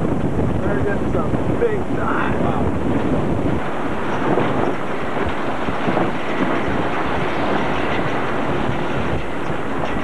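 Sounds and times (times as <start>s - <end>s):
sea wash: 0.0s - 10.0s
wind blowing across microphone: 0.0s - 10.0s.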